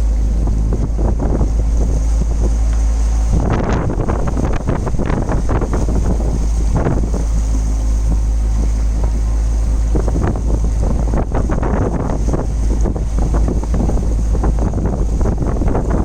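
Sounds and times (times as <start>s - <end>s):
steady hum: 0.0s - 16.0s
wind buffeting microphone: 0.0s - 16.0s.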